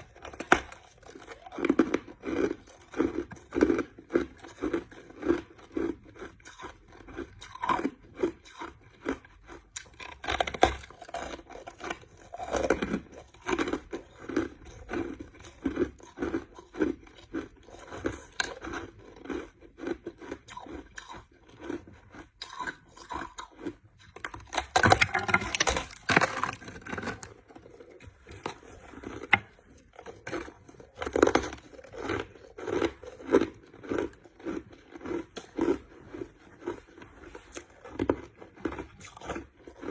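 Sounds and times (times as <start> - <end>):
person chewing crushed ice: 0.0 - 39.9.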